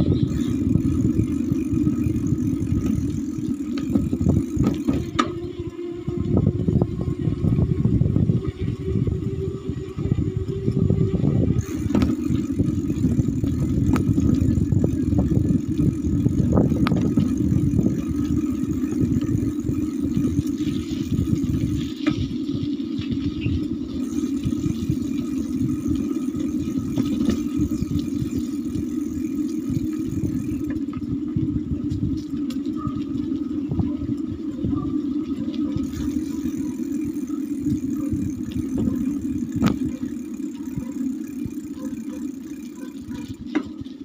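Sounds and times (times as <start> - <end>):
vehicle engine and road rumble: 0.0 - 44.0.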